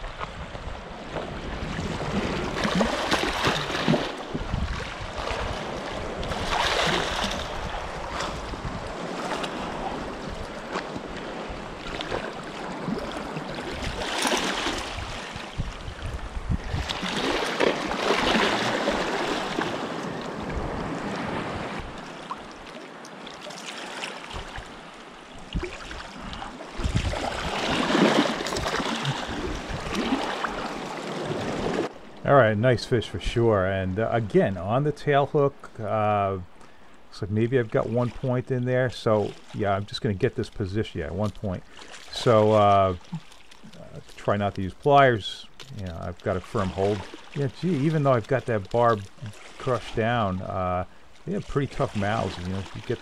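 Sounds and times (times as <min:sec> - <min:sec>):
waves washing over rocks: 0:00.8 - 0:32.4, 0:41.1 - 0:53.0.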